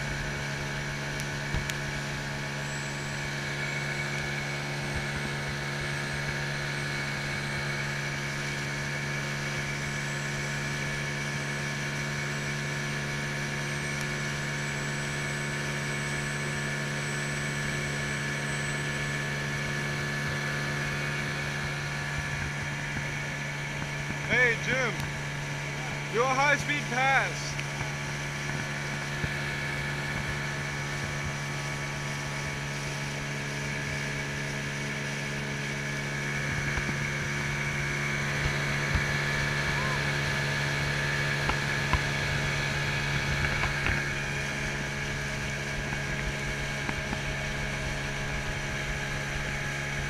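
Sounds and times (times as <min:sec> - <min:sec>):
outboard motor droning: 0:00.0 - 0:50.0.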